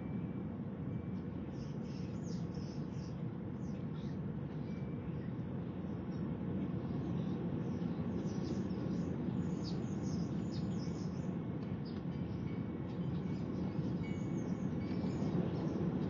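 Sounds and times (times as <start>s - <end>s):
birds chirping: 1.2s - 16.0s.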